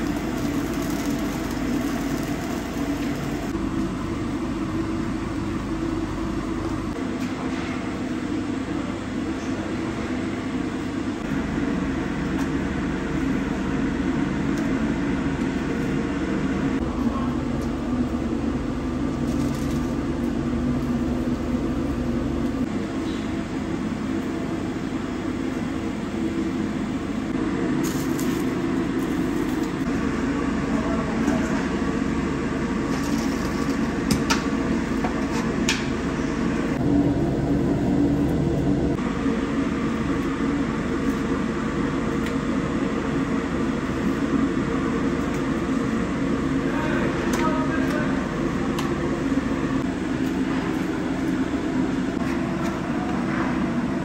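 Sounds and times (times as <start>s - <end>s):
fire roaring under cooking pot: 0.0s - 54.0s.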